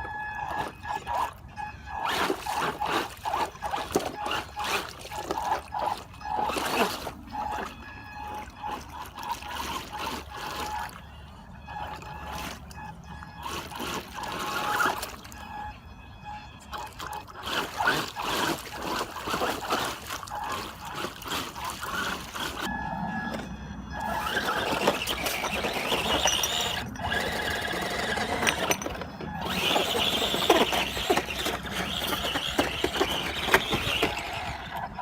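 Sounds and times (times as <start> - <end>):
electric motor whine: 0.0 - 35.0
water splashing and churning: 0.0 - 35.0.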